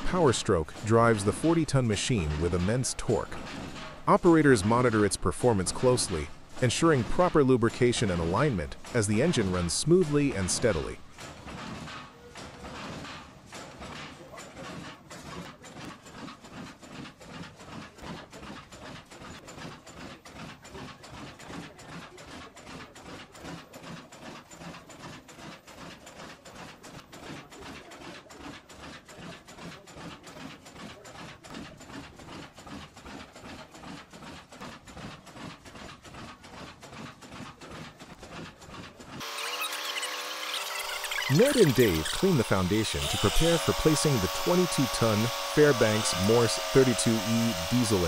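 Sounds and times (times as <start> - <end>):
engine mechanical clatter: 0.0 - 48.0.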